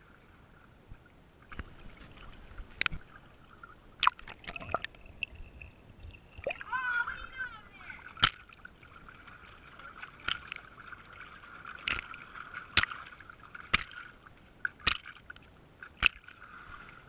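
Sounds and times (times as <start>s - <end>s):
water splashing against camera: 1.5s - 17.0s.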